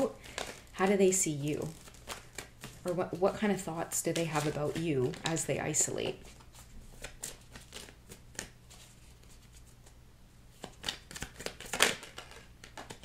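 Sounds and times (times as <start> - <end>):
cards being shuffled: 0.0 - 10.0, 10.6 - 13.0.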